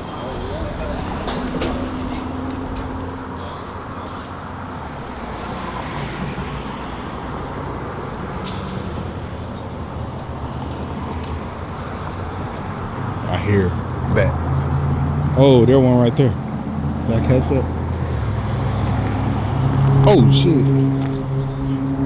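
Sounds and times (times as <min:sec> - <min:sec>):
car engines running: 0:00.0 - 0:22.0.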